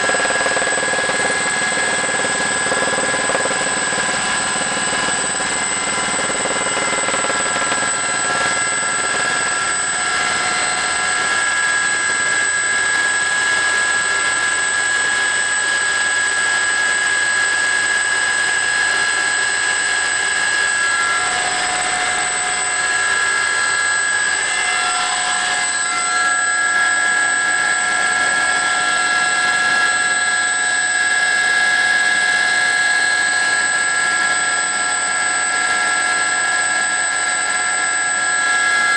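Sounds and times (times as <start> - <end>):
helicopter engine and rotors: 0.0 - 38.9
high turbine whine: 0.0 - 38.9.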